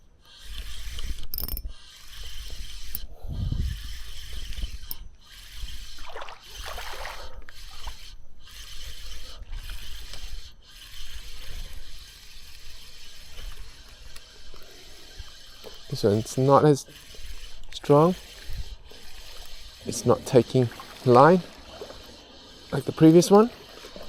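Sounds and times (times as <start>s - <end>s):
fishing reel winding and ratcheting: 0.2s - 24.0s.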